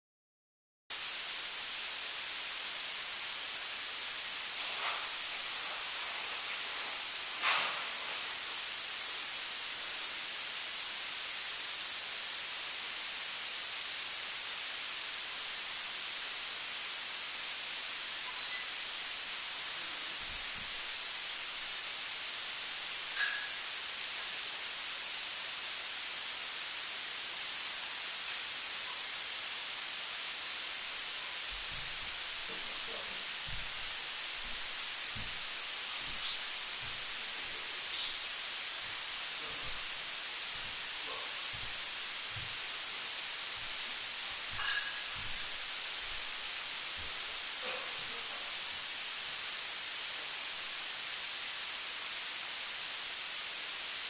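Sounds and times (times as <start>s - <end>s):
electronic static hiss: 1.0s - 54.0s.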